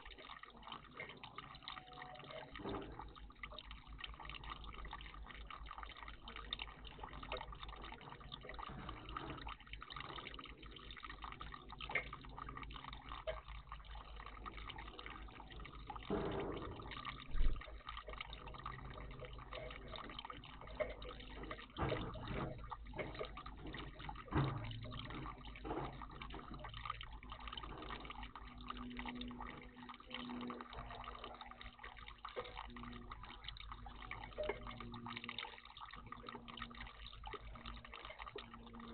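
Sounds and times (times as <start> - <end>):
water splashes: 0.0 - 38.9
water trickling and dripping: 0.0 - 38.9.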